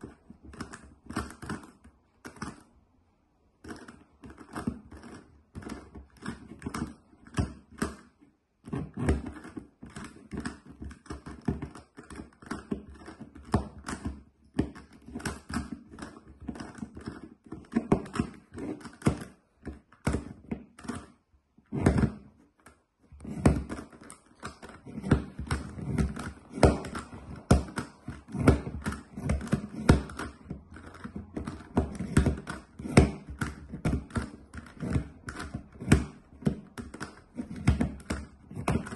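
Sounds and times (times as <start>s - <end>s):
puzzle cube faces clicking: 0.0s - 2.8s, 3.5s - 38.9s.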